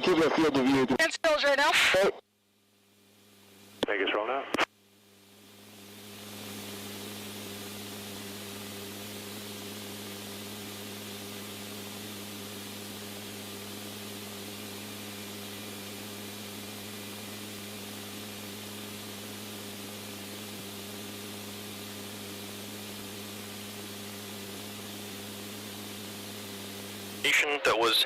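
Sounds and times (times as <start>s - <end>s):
radio static hiss: 0.0s - 2.2s, 3.2s - 28.0s
low electrical hum: 0.8s - 27.3s.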